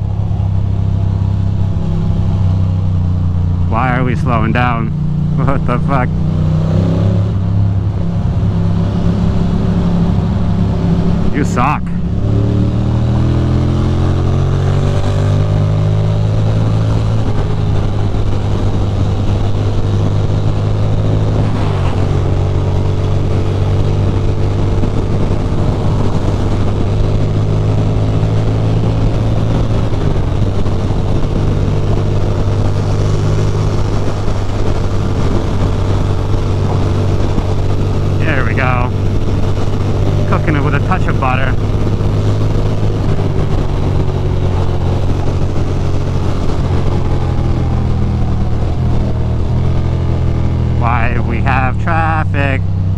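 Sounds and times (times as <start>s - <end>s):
motorcycle engine accelerating: 0.0s - 52.9s
wind and road noise: 0.0s - 52.9s.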